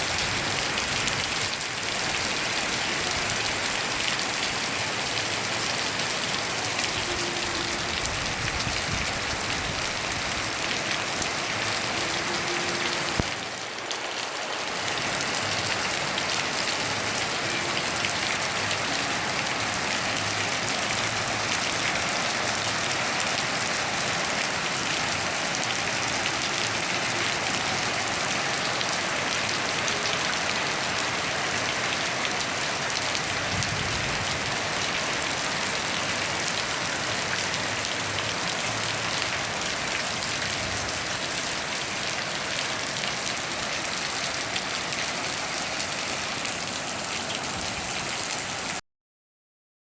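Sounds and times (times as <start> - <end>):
rain falling: 0.0 - 48.8.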